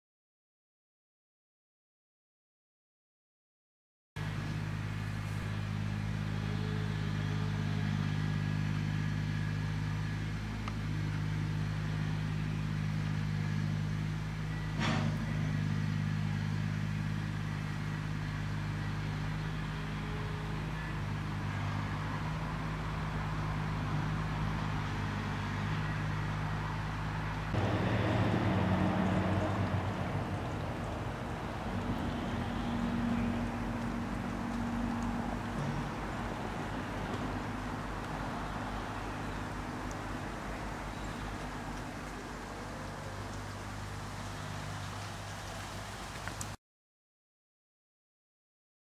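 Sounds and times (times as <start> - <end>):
low mechanical hum: 4.2 - 46.6.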